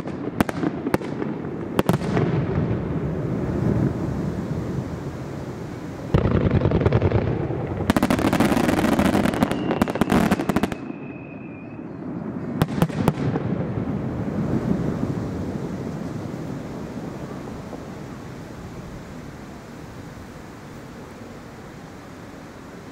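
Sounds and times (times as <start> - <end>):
fireworks crackling: 0.0 - 22.9.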